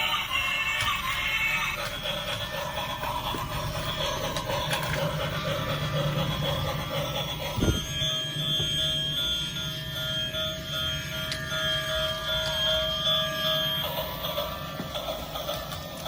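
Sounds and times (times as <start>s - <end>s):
toy train running on track: 0.0s - 16.0s.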